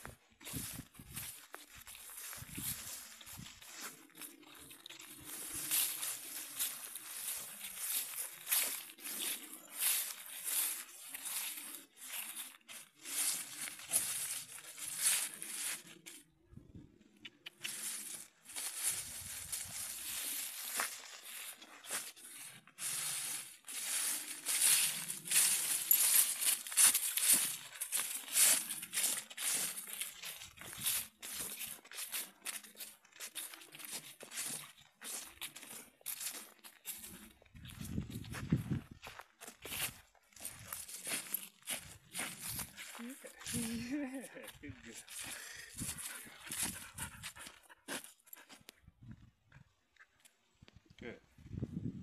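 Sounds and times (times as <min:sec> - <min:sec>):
footsteps crunching dry leaves: 0:00.0 - 0:16.4, 0:17.5 - 0:48.6.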